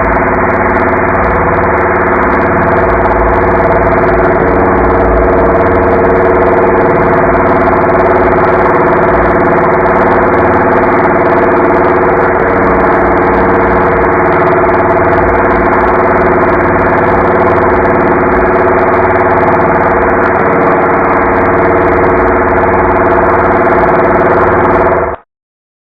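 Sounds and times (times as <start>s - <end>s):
robotic droning hum: 0.0s - 25.2s.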